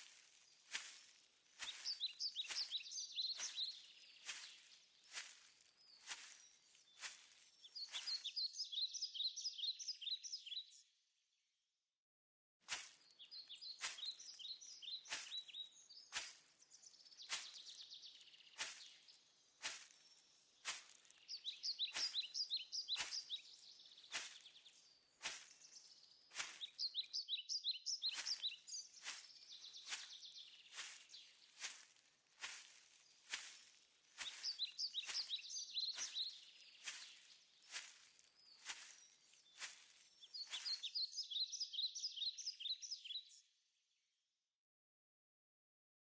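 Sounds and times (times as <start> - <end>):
songbird singing rapid phrases: 0.2 - 10.9, 12.9 - 43.6.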